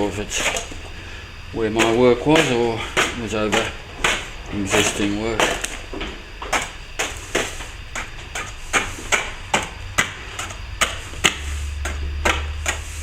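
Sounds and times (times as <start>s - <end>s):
scraper chipping plaster off brick: 0.0s - 0.8s, 1.6s - 13.0s.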